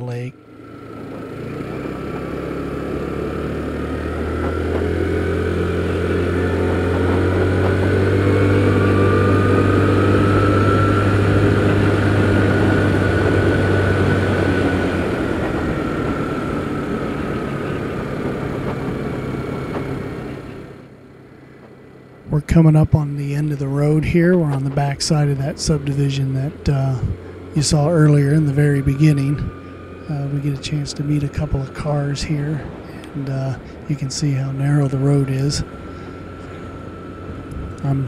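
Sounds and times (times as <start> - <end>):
scooter engine whining: 0.0 - 38.0.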